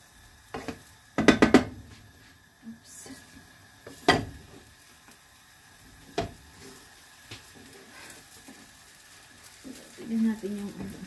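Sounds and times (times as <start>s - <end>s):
omelette sizzling in a pan: 0.0s - 11.0s.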